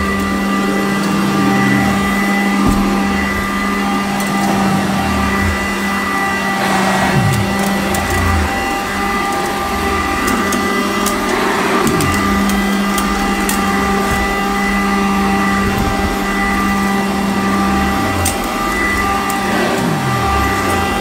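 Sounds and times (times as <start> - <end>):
vacuum cleaner running on carpet: 0.0 - 21.0.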